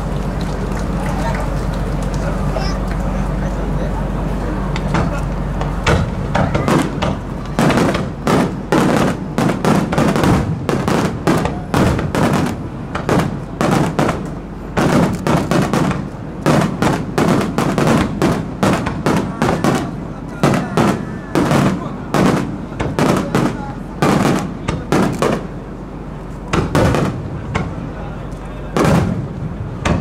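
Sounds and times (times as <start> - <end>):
fireworks bursting: 4.7 - 30.0.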